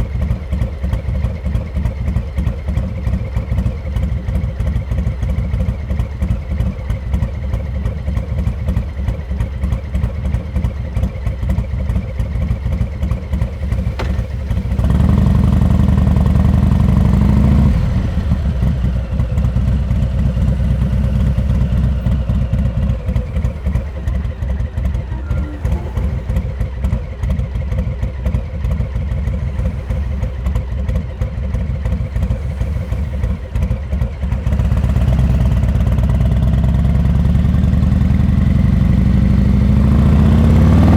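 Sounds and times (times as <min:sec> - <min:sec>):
motorcycle engine pulsing: 0:00.0 - 0:40.9.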